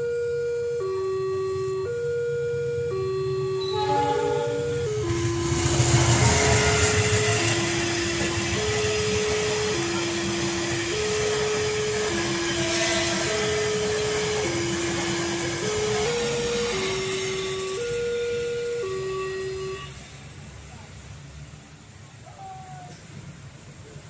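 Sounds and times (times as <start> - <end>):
crossing warning signal tones: 0.0 - 20.1
passenger train rumbling past: 2.6 - 24.0.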